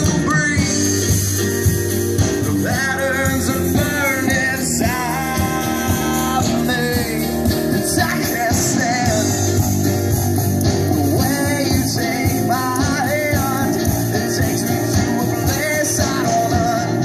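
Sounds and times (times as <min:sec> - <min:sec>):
person singing: 0:00.0 - 0:01.4, 0:02.2 - 0:10.0, 0:10.7 - 0:17.0
guitar: 0:00.0 - 0:17.0
live rock band playing: 0:00.0 - 0:17.0.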